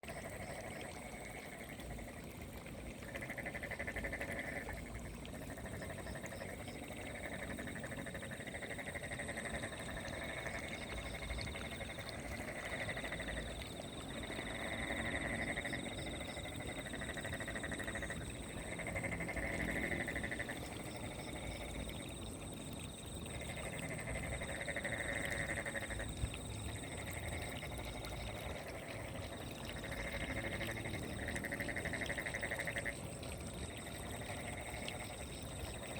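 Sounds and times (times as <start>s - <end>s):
frogs calling in pulses: 0.0s - 35.9s.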